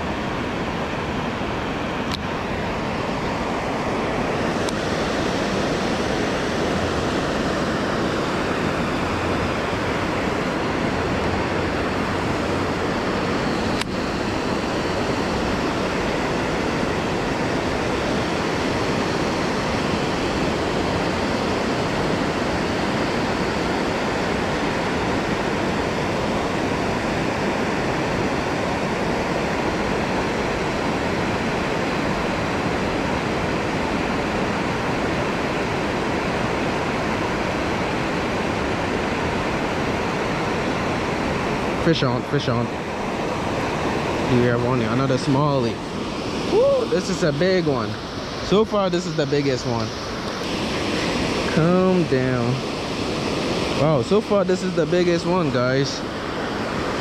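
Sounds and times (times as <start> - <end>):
water rushing over a dam: 0.0 - 57.0.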